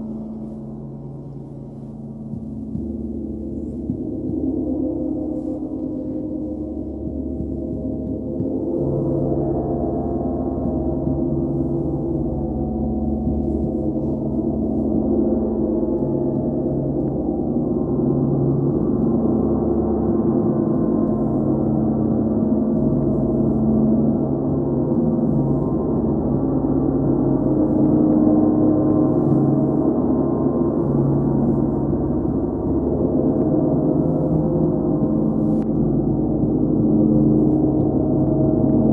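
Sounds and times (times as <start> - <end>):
gongs played with felt mallets: 0.0 - 38.9.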